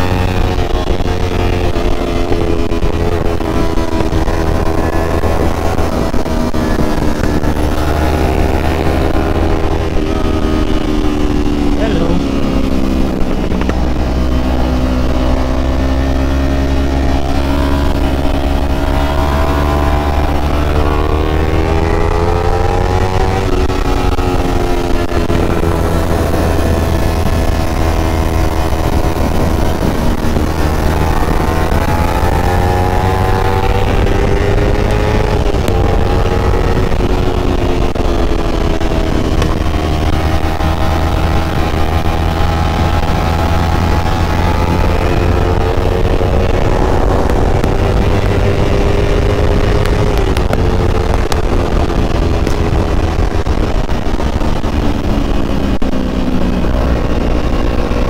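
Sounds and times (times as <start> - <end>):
motorcycle engine at riding speed: 0.0 - 58.0
wind rushing: 0.0 - 58.0.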